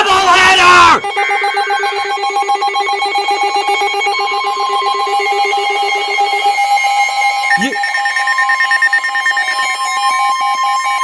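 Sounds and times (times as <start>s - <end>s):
buzzing electronic alarm tones: 1.0s - 11.0s.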